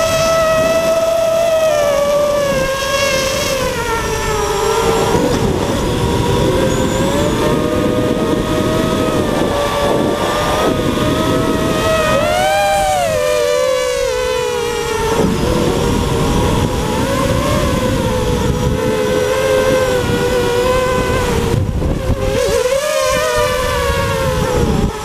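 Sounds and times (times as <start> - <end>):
drone motors whining: 0.0 - 25.0
wind noise: 0.0 - 25.0.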